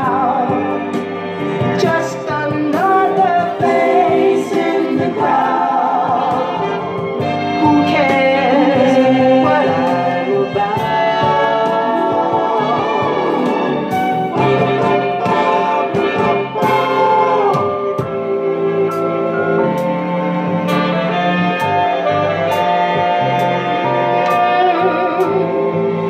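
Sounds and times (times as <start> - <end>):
bass line: 0.0 - 26.0
horn section: 0.0 - 26.0.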